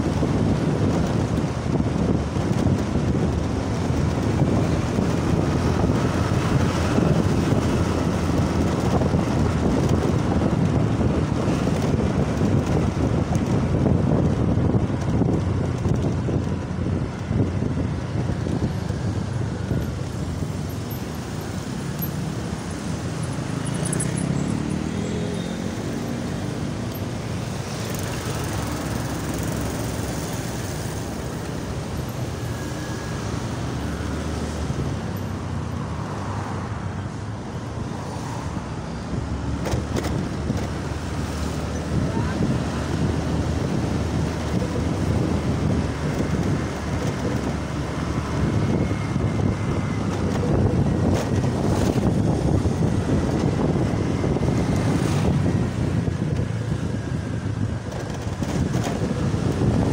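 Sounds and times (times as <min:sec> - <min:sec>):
passing cars and motorbikes: 0:00.0 - 0:59.9
road noise: 0:00.0 - 0:59.9.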